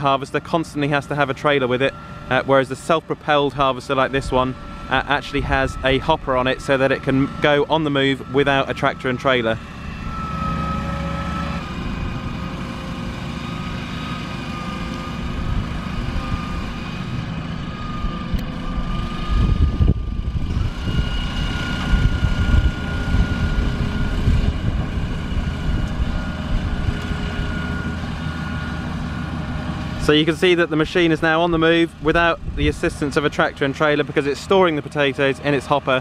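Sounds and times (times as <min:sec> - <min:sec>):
high steady whine: 0:00.0 - 0:35.9
harvester engine drone: 0:00.0 - 0:36.0.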